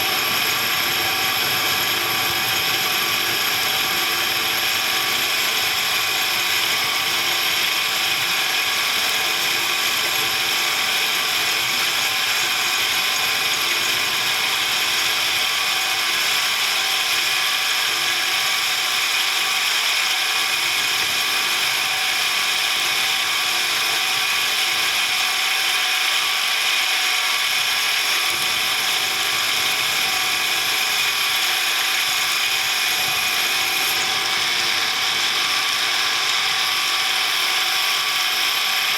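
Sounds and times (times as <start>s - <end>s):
machine tool whining: 0.0s - 38.9s.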